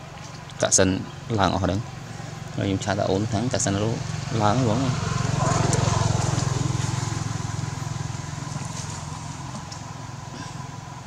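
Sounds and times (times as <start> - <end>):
engine running with low drone: 0.0 - 11.0.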